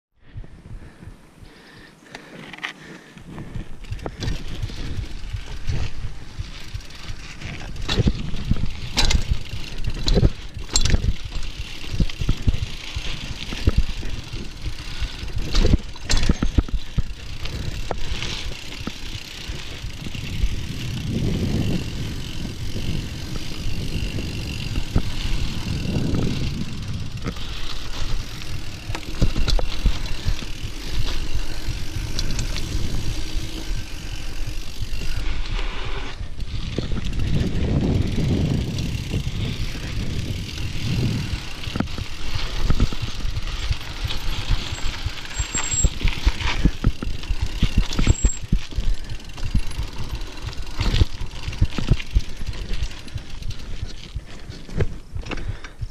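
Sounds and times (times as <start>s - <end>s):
bike tyres rumbling on dirt: 0.2s - 55.9s
bike rattling over bumps: 0.3s - 55.9s.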